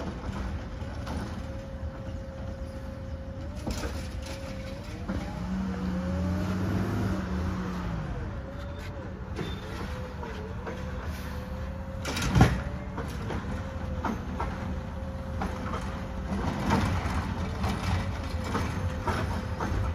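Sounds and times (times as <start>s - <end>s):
diesel engine: 0.0s - 19.9s.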